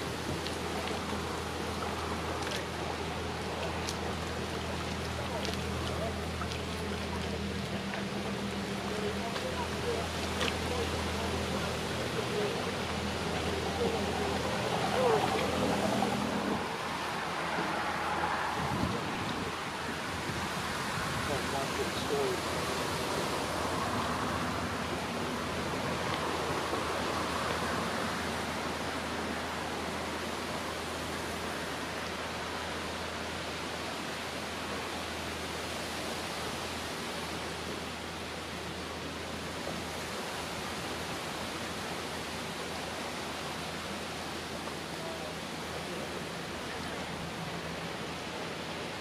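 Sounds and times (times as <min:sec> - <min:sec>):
steady outdoor hiss: 0:00.0 - 0:49.0.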